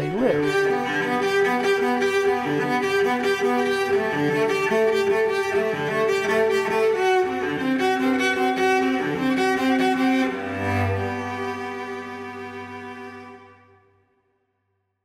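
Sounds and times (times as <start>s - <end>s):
bowed strings music: 0.0s - 13.9s.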